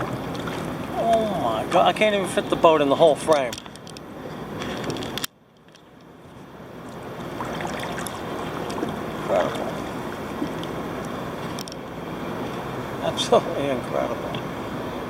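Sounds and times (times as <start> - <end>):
sea noise: 0.0 - 15.0
wind: 0.0 - 15.0.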